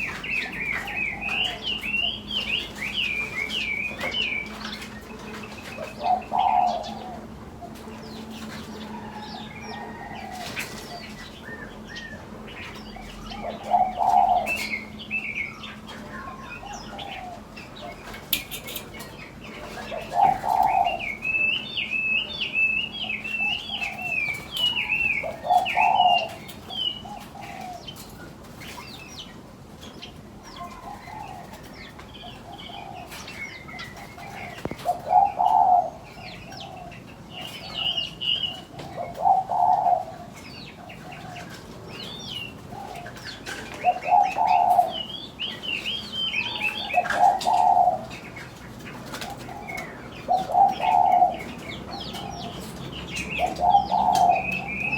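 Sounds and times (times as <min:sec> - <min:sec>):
doves cooing: 0:00.0 - 0:54.9
small birds chirping: 0:00.0 - 0:54.9.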